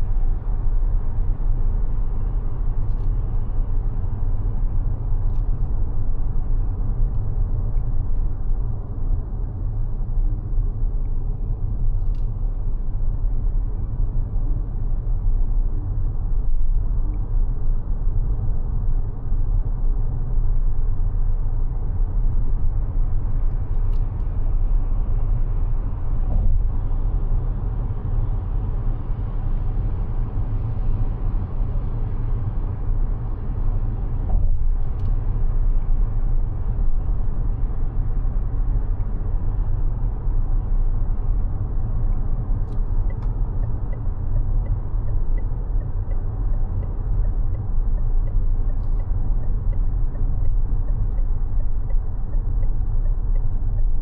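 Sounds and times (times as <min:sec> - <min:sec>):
road and tyre noise: 0:00.0 - 0:54.0.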